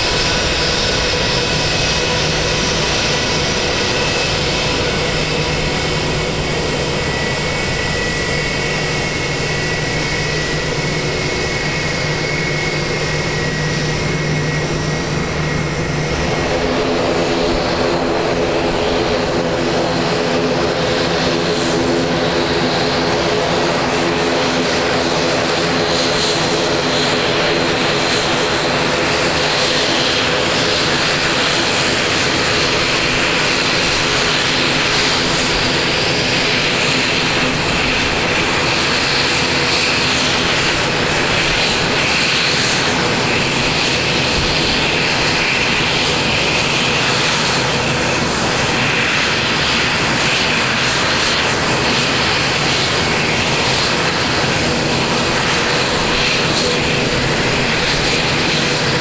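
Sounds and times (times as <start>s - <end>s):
jet engines running: 0.0s - 59.0s
turboprop propeller drone: 0.0s - 59.0s.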